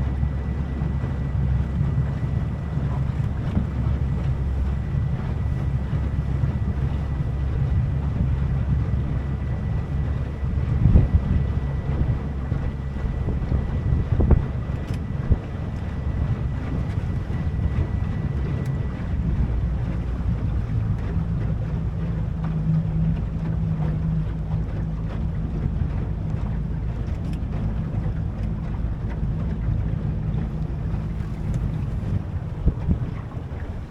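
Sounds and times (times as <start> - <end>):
boat motor humming: 0.0 - 33.9
wind buffeting microphone: 0.0 - 33.9.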